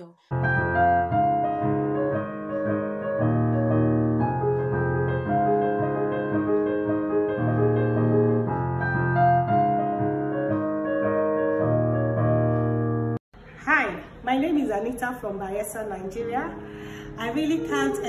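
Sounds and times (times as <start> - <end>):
slow piano piece: 0.0 - 13.2, 15.8 - 18.0.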